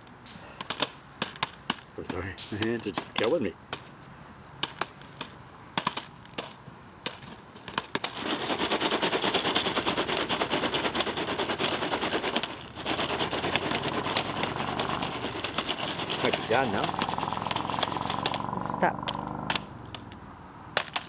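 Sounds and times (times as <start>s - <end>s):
popcorn popping and rattling: 0.6s - 3.8s, 4.6s - 20.1s, 20.8s - 21.0s.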